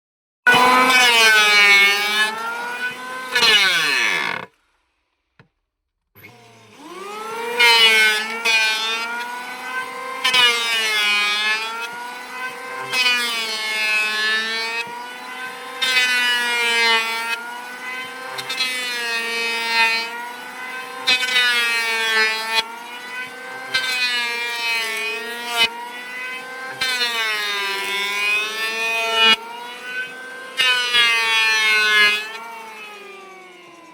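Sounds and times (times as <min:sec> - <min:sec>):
electric planer motor: 0:00.5 - 0:05.5, 0:06.2 - 0:33.9
planer cutting wood hiss: 0:06.2 - 0:33.9.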